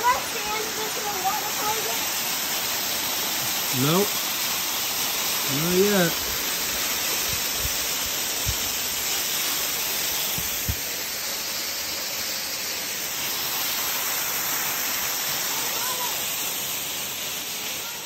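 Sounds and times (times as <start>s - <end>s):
waterfall spray spattering: 0.0s - 18.0s.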